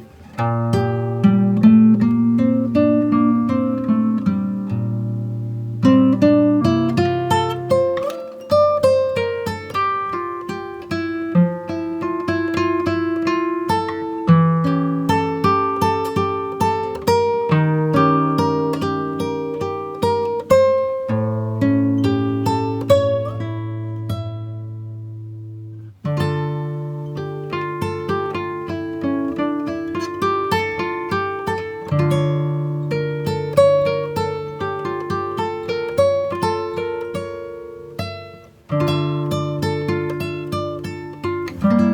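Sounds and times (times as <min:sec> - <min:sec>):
picked acoustic guitar music: 0:00.0 - 0:41.9.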